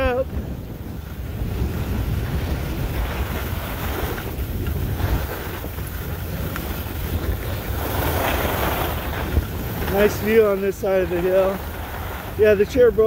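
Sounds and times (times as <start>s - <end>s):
skis sliding over snow: 0.0s - 13.0s
wind buffeting microphone: 0.0s - 13.0s.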